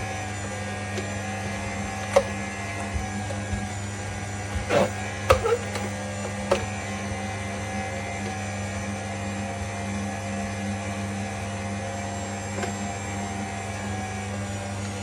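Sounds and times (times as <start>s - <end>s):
juicer motor humming: 0.0s - 15.0s.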